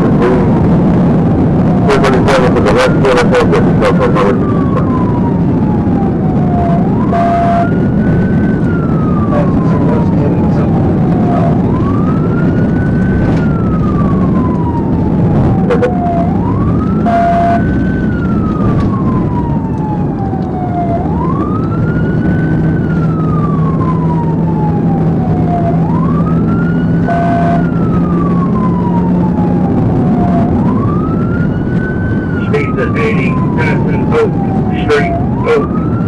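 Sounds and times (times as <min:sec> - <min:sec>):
police siren wailing: 0:00.0 - 0:36.0
road and engine noise: 0:00.0 - 0:36.0.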